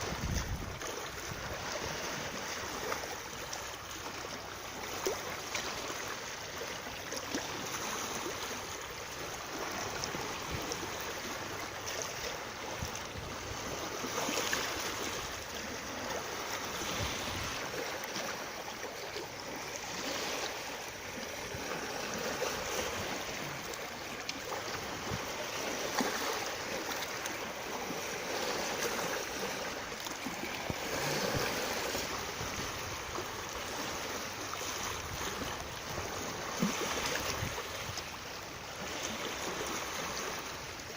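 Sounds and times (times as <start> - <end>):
running water rushing: 0.0 - 40.9
small water splashes: 0.0 - 40.9.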